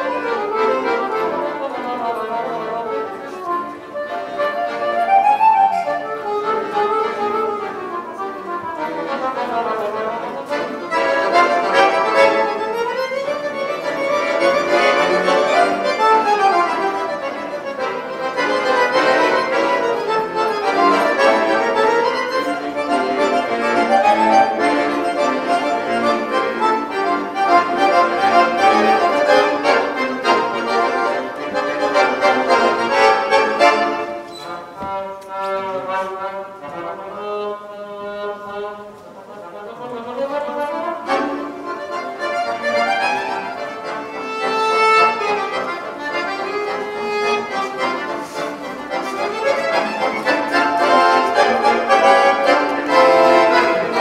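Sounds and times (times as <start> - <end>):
accordion duet: 0.0 - 54.0.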